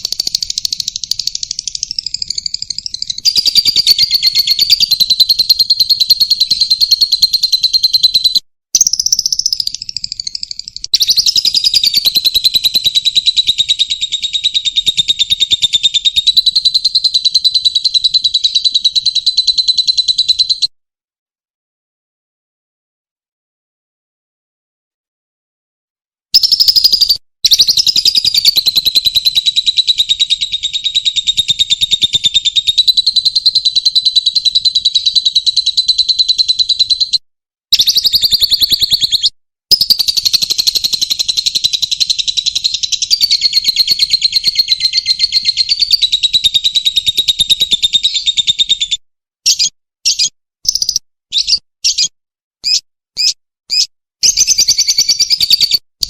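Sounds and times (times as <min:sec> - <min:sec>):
small bird chirping: 0:00.0 - 0:20.7, 0:26.4 - 0:55.9.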